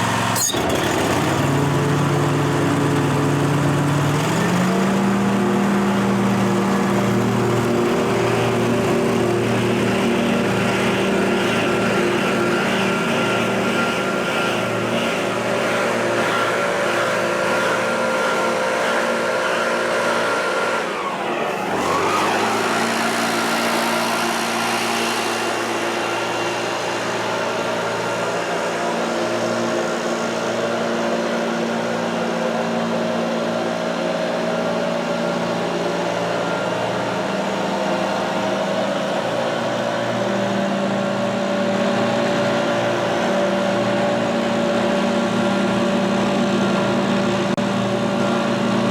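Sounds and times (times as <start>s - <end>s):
small gas engine running: 0.0s - 48.9s.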